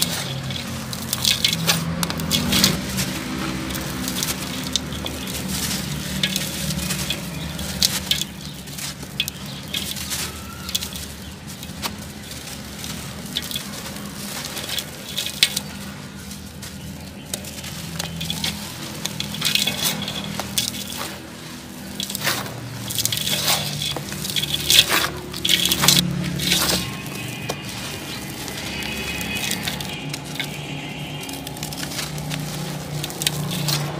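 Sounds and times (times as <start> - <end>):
grit pattering into a basin: 0.0 - 33.9
sand-cement chunks crunching: 0.0 - 33.9.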